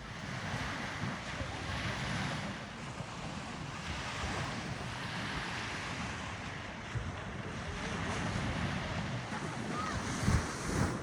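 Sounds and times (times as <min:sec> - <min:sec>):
sea surf washing on shore: 0:00.0 - 0:11.0
wind buffeting microphone: 0:00.0 - 0:11.0.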